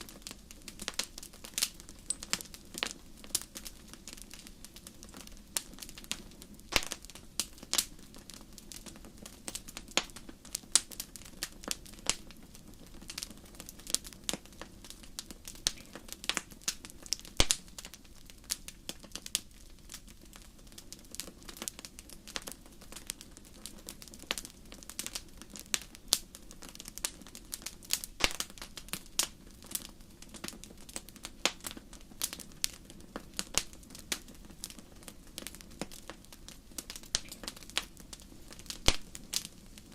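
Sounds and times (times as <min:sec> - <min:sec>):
fire burning low: 0:00.0 - 0:39.9
wood fire crackling and popping: 0:00.0 - 0:39.9.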